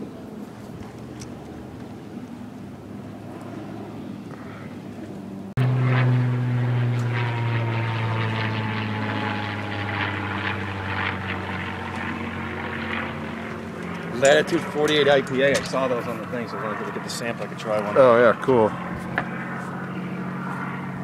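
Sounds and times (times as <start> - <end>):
propeller airplane droning overhead: 0.0 - 21.0.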